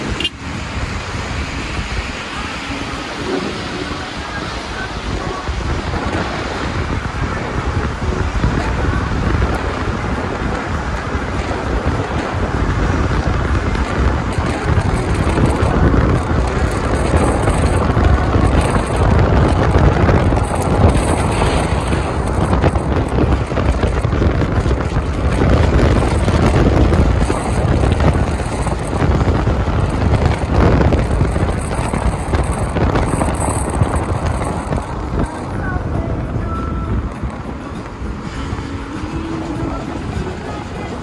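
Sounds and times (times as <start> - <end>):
car road noise rumbling: 0.0 - 41.0
wind rushing on microphone: 0.0 - 41.0.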